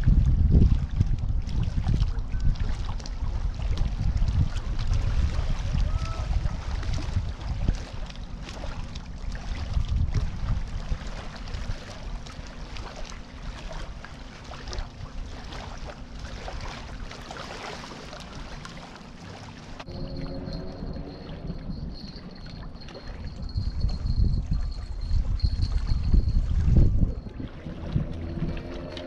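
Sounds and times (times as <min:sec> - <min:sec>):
waves lapping against rocks: 0:00.0 - 0:29.0
wind rumbling on microphone: 0:00.0 - 0:29.0.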